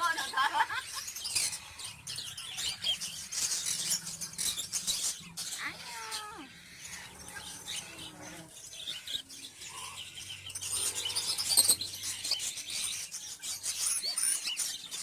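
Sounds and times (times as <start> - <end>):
bird chicks chirping: 0.0 - 15.0.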